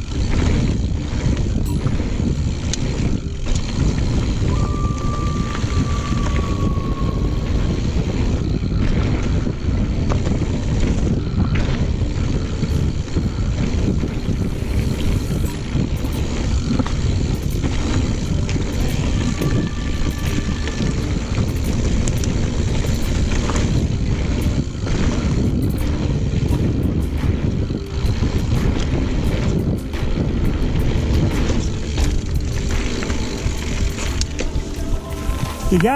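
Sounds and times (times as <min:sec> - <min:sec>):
bike rattles and clicks: 0:00.0 - 0:35.9
bike tyres rolling on dirt: 0:00.0 - 0:35.9
wind buffeting microphone: 0:00.0 - 0:35.9.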